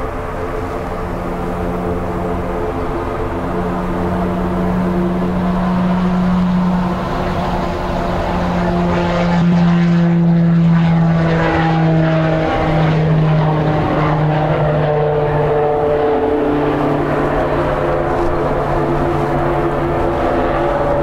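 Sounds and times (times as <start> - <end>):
turboprop aircraft drone: 0.0 - 21.0.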